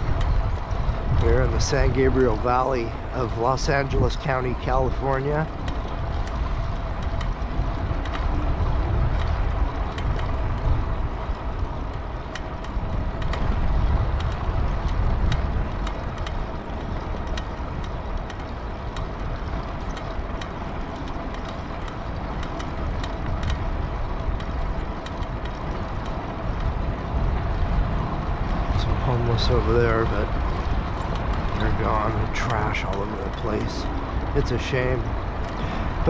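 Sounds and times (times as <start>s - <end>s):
bicycle tyres rolling: 0.0s - 36.0s
wind rumble on microphone: 0.0s - 36.0s
light clicks and ticks: 0.1s - 36.0s.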